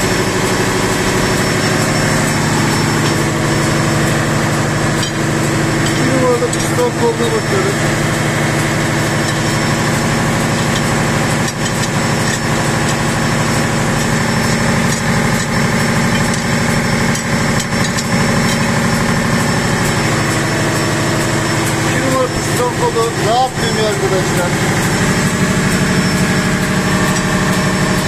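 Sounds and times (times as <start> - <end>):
engine-room machinery humming: 0.0 - 28.0.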